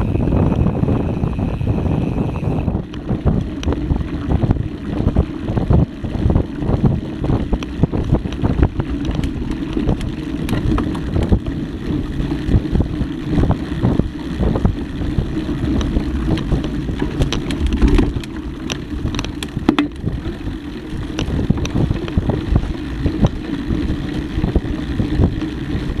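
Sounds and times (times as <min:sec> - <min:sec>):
bike clicks and rattles: 0:00.0 - 0:26.0
wind on microphone: 0:00.0 - 0:26.0
tyres on dirt: 0:03.1 - 0:26.0.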